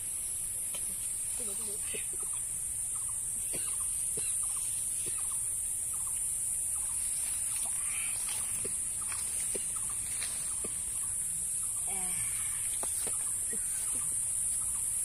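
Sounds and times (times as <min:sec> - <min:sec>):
high-pitched insect drone: 0:00.0 - 0:15.0
bird calls: 0:00.7 - 0:15.0.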